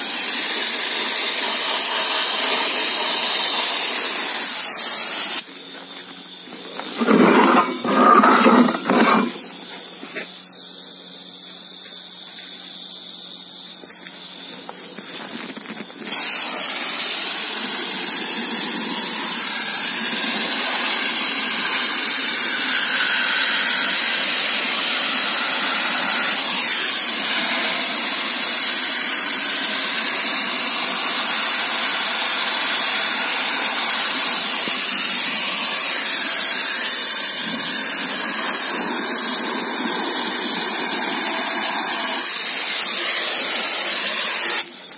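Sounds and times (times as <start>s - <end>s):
high steady whine: 0.0s - 44.9s
sandblasting gun hissing: 0.0s - 44.9s.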